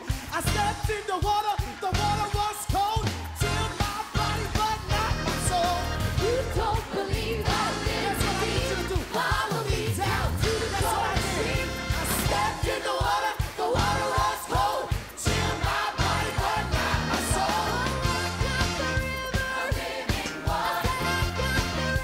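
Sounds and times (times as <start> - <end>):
band playing upbeat praise song: 0.0 - 22.0
drums and bass: 0.0 - 22.0
voices singing: 3.4 - 22.0.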